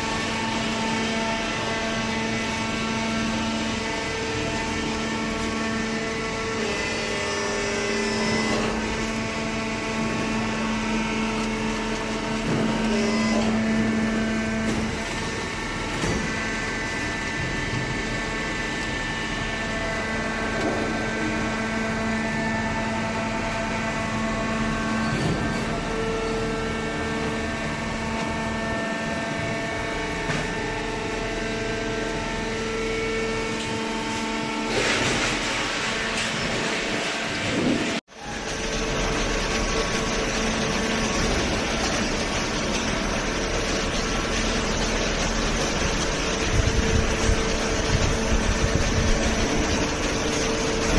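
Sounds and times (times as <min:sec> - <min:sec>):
machinery motor hum: 0:00.0 - 0:50.9.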